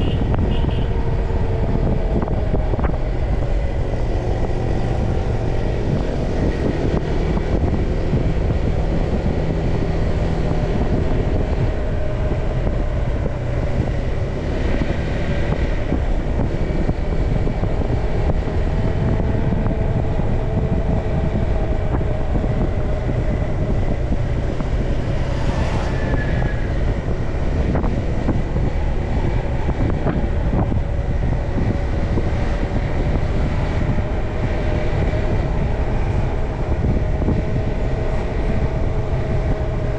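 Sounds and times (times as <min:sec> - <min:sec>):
motorcycle engine cruising: 0:00.0 - 0:39.9
road noise: 0:00.0 - 0:39.9
wind noise on microphone: 0:00.0 - 0:39.9.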